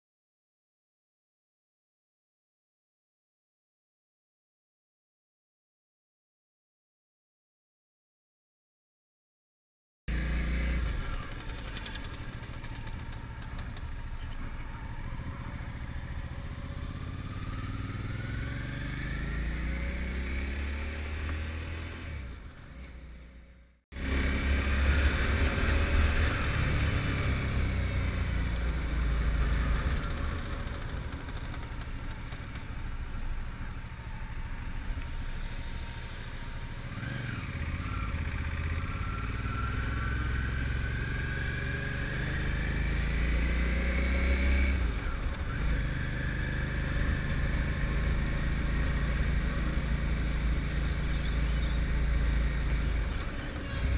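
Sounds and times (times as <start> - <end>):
motorcycle engine running: 10.1 - 53.9.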